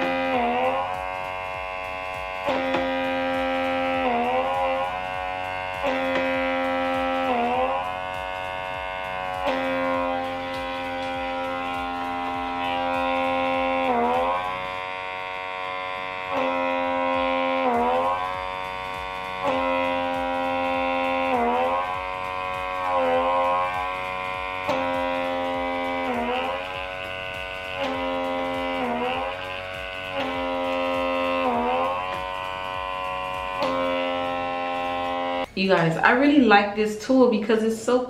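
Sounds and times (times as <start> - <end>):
small vacuum pump buzzing: 0.0 - 36.7.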